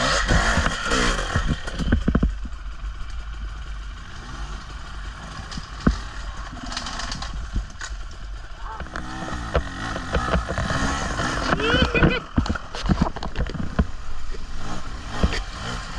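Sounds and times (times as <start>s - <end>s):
clatter and knocks from terrain: 0.0s - 3.2s, 5.4s - 14.4s, 15.1s - 15.8s
motorcycle engine running: 0.0s - 15.9s.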